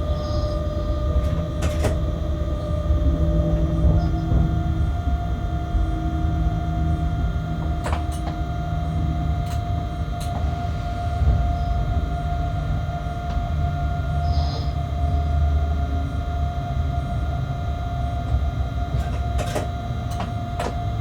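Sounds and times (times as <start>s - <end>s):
constant hum: 0.0s - 21.0s
locomotive low rumble: 0.0s - 21.0s.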